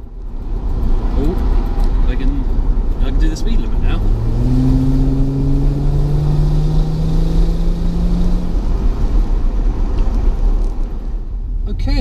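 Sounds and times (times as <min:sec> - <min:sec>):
car engine accelerating: 0:00.0 - 0:11.2.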